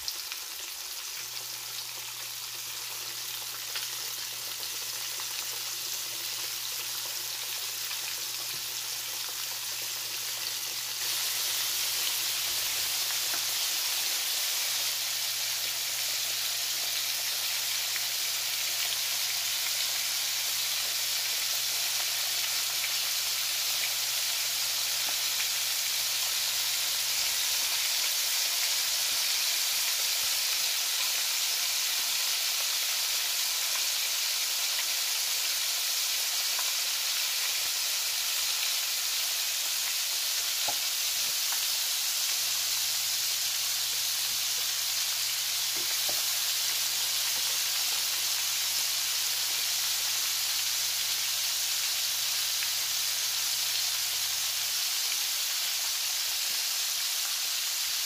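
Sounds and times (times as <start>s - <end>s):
chicken wings deep-frying in oil: 0.0s - 58.0s.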